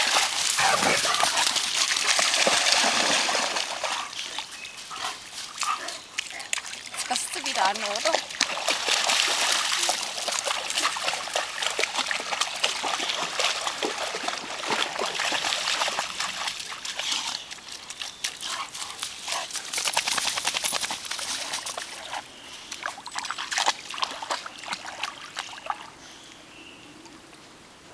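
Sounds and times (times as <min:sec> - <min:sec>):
dogs splashing through water: 0:00.0 - 0:26.2.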